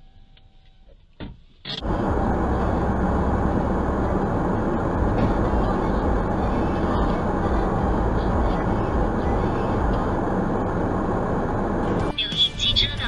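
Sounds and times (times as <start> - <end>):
car road and wind noise: 0.4 - 13.0.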